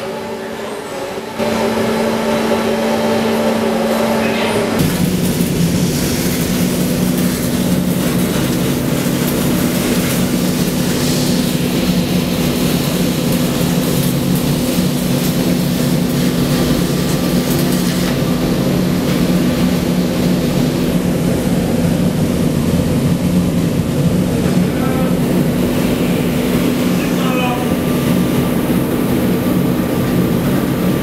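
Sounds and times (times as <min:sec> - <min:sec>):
machinery drone with hiss: 0:00.0 - 0:31.0.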